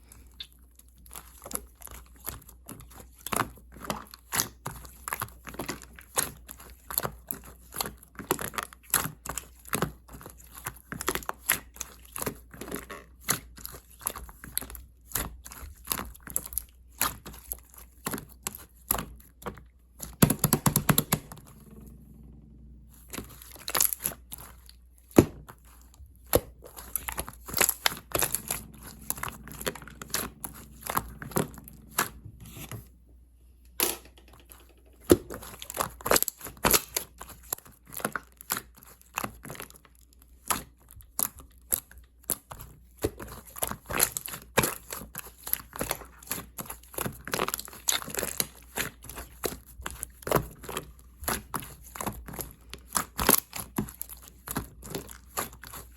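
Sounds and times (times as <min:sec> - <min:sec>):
slime with beads crackling: 0:00.2 - 0:21.8, 0:22.9 - 0:32.8, 0:35.0 - 0:55.9.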